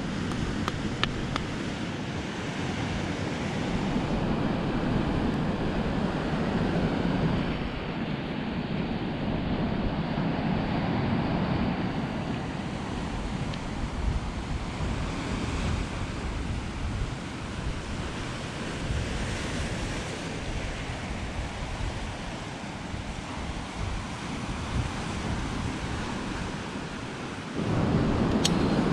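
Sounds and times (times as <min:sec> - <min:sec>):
ocean surf washing in: 0:00.0 - 0:28.9
wind rumbling on microphone: 0:00.0 - 0:28.9.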